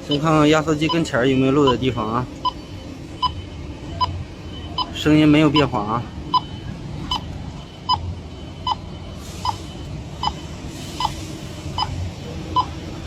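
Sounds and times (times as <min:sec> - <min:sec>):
leak detector beeping: 0:00.0 - 0:13.0.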